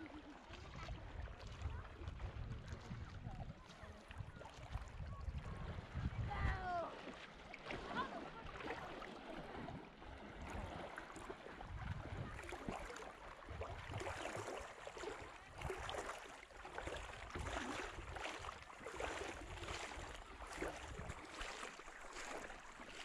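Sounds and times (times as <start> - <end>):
water splashing around boat: 0.0 - 23.0
wind rumble on microphone: 0.5 - 7.0, 7.7 - 14.6, 15.4 - 16.1, 16.8 - 21.5.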